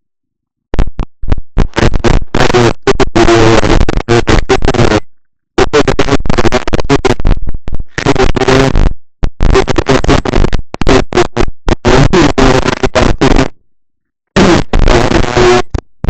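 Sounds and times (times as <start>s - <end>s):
crackling microphone static: 0.6s - 13.7s, 14.3s - 16.0s.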